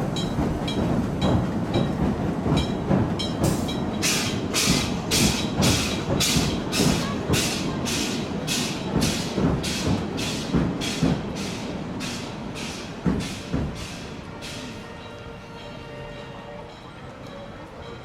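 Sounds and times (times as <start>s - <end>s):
paddle-wheel engine hissing puffs: 3.4s - 18.0s.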